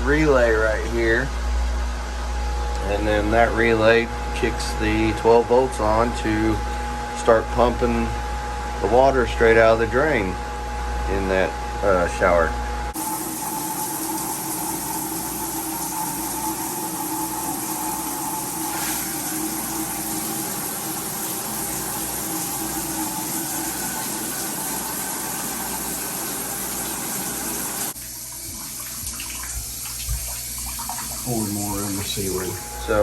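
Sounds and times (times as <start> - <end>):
electric pump humming: 0.0 - 33.0.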